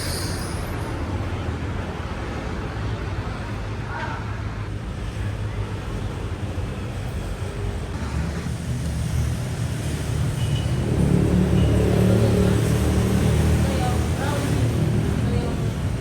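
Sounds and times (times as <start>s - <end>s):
motor vehicle rumble: 0.0s - 16.0s
road traffic noise: 0.0s - 16.0s.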